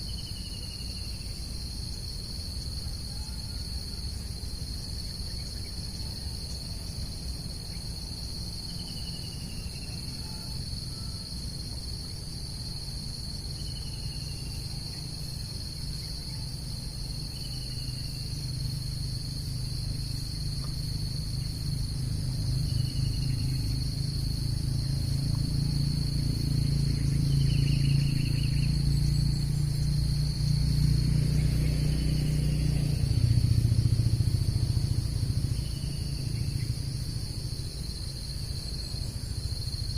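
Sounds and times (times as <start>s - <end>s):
crickets and insects chirping: 0.0s - 39.9s
low droning hum: 4.0s - 39.9s.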